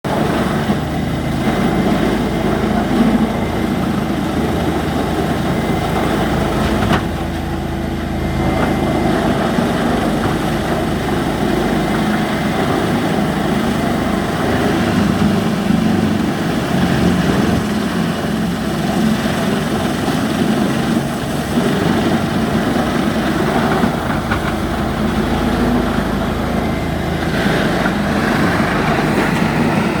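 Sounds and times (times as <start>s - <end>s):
crusher machine running: 0.0s - 30.0s.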